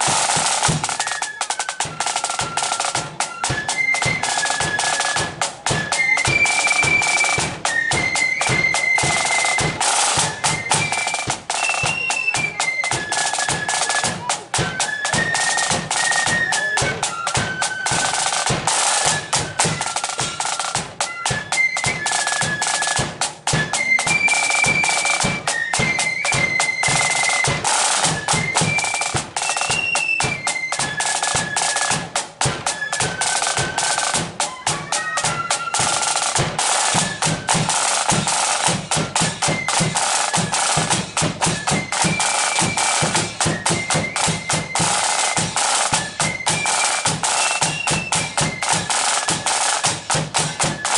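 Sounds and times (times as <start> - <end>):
flutes playing march melody: 0.0 - 50.9
snare drum rolls: 0.0 - 50.9.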